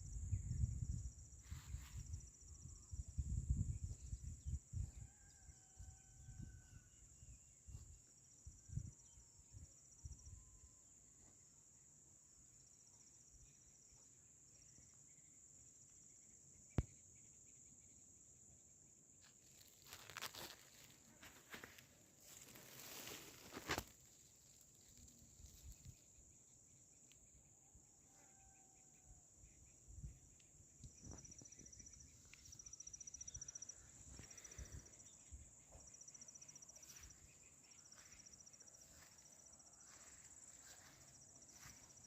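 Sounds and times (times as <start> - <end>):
high chirps like crickets: 0.0 - 42.0
insects humming: 0.0 - 42.0.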